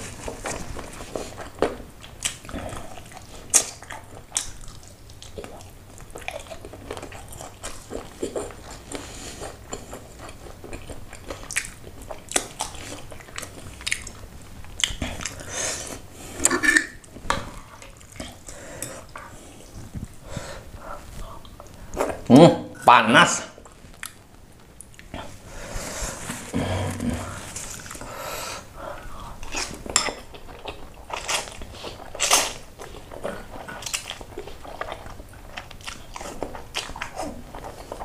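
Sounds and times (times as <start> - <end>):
close chewing and biting: 0.0 - 22.3, 29.2 - 38.0.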